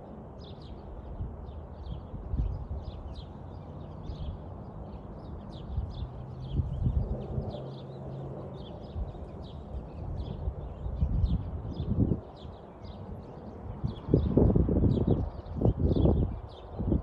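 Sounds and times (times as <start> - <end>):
wind buffeting microphone: 0.0 - 17.0
small birds chirping: 0.4 - 17.0.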